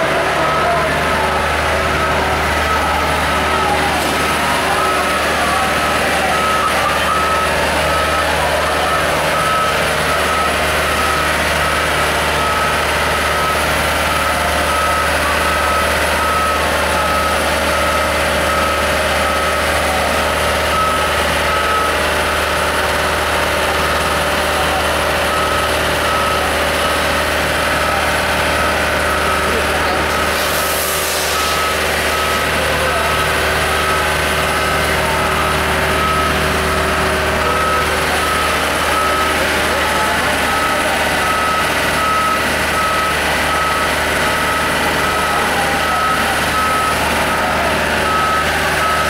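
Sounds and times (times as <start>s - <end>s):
reversing alarm beeping: 0.0s - 49.0s
truck engine humming: 0.0s - 49.0s.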